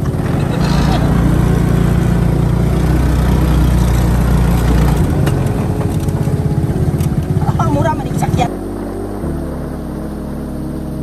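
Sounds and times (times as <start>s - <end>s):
buggy engine running: 0.0s - 11.0s.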